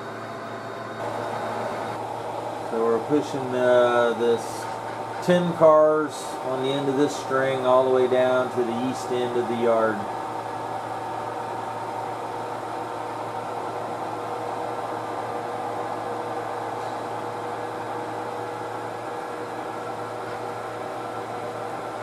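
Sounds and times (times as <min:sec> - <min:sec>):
model locomotive mechanical hum: 0:00.0 - 0:22.0.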